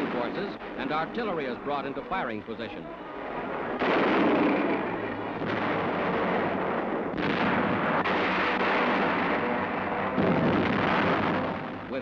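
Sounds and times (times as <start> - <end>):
heavy artillery blasts: 0.0 - 1.4, 3.2 - 12.0.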